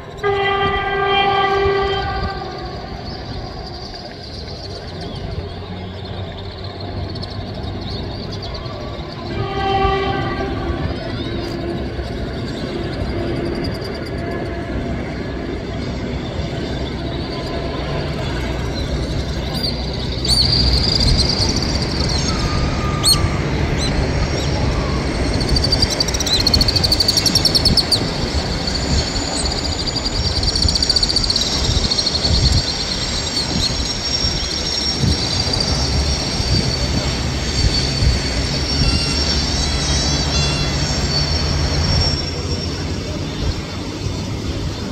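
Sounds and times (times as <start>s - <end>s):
train coaches rolling past: 0.0s - 44.9s
train wheels squealing: 0.0s - 44.9s.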